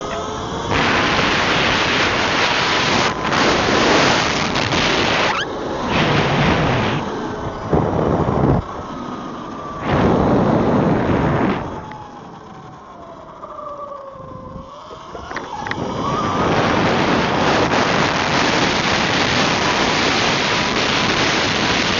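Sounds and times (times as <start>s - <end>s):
electric motor whine: 0.0s - 21.9s
wind buffeting microphone: 0.0s - 21.9s.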